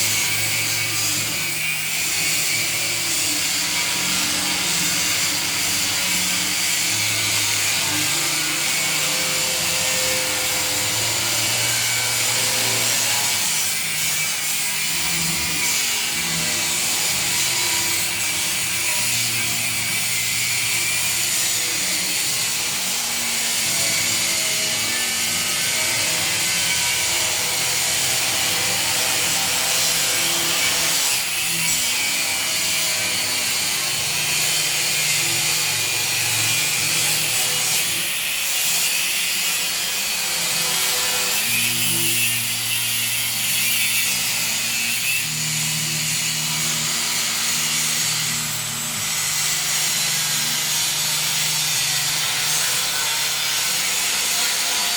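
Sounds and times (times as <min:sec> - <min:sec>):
angle grinder cutting steel: 0:00.0 - 0:54.9.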